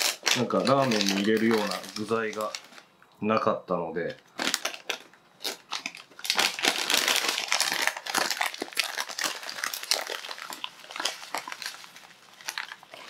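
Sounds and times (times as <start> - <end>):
plastic bag crinkling: 0.0 - 2.9, 4.3 - 13.0.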